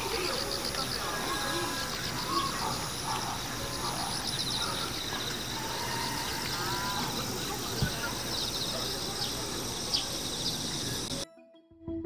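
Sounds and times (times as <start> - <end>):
bird calls: 0.0 - 11.2
insects chirping in pulses: 0.0 - 11.2
thin high insect tone: 0.0 - 11.2.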